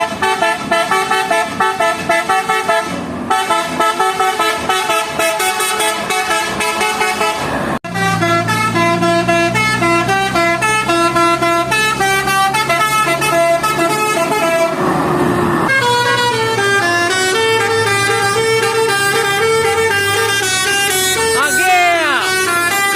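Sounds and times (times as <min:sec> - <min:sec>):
bus musical horns: 0:00.0 - 0:22.9.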